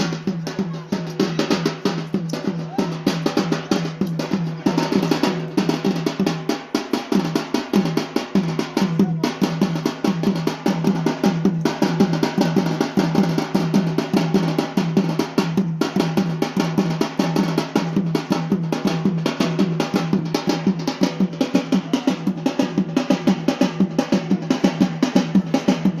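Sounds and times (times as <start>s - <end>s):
drums beating fast rhythm: 0.0s - 26.0s.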